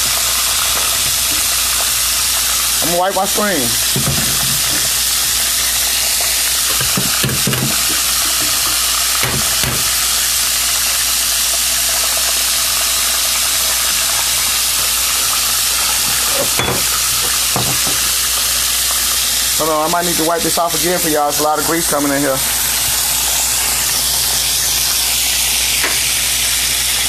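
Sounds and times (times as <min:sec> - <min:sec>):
chicken wings sizzling in oil: 0:00.0 - 0:27.0.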